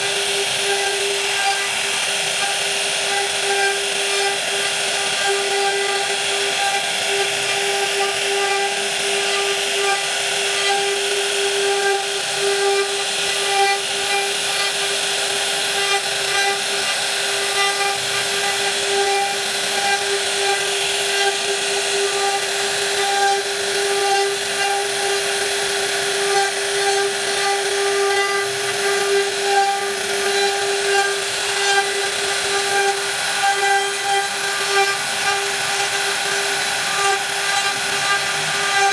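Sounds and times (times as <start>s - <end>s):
power tool motor whining: 0.0s - 38.9s.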